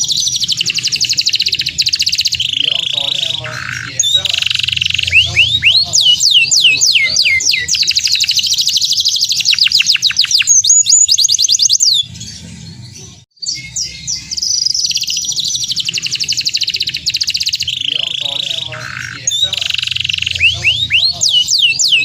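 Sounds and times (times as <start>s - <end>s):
canary singing and trilling: 0.0s - 22.0s.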